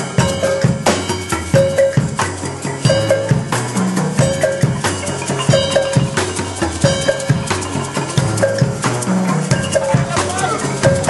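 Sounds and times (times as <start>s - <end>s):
drum kit beat: 0.0s - 11.0s
marimba notes: 0.0s - 11.0s.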